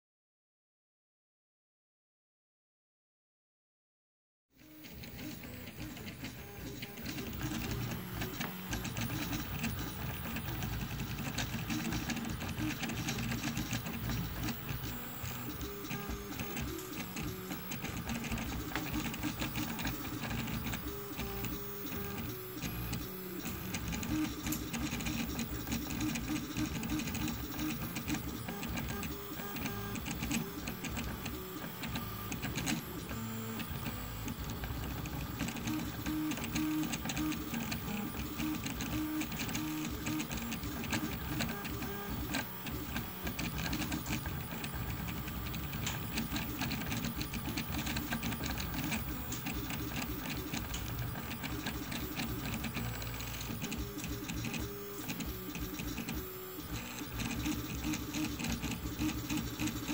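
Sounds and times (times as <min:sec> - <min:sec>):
stepper motors whining: 0:04.7 - 0:59.9.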